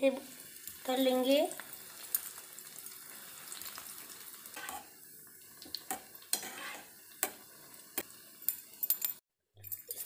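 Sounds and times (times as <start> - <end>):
bread sizzling in hot oil: 0.0 - 10.0.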